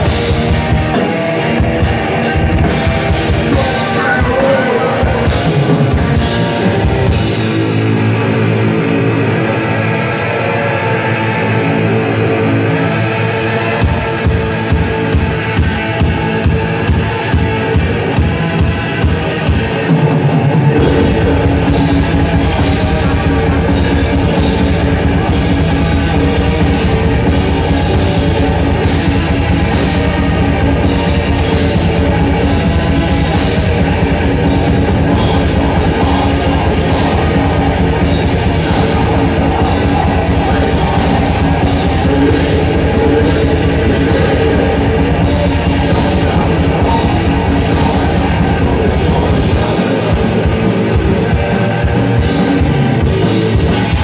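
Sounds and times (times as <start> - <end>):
electric guitar chords: 0.0 - 54.0
heavy metal band playing: 0.0 - 54.0.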